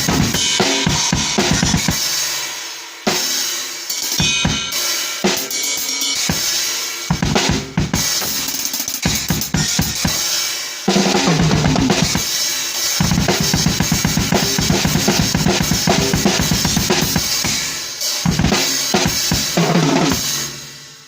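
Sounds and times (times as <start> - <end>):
drum kit playing fast metal: 0.0 - 21.0.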